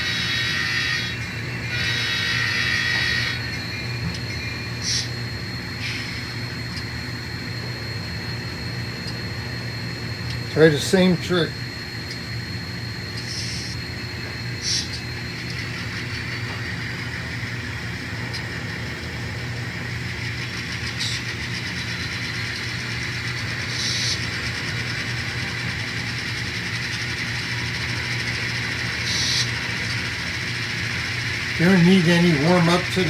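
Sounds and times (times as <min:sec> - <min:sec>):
diesel engine drone from small speakers: 0:00.0 - 0:33.0.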